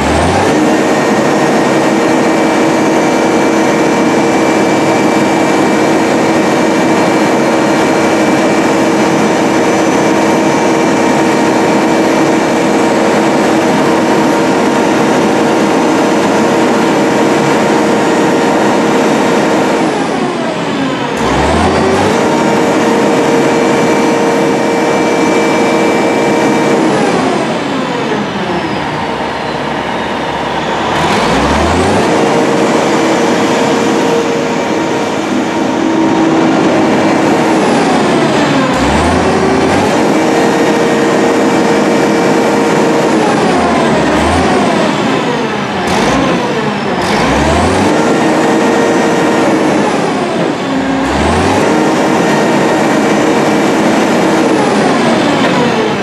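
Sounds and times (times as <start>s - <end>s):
crane engine revving: 0.0s - 56.0s.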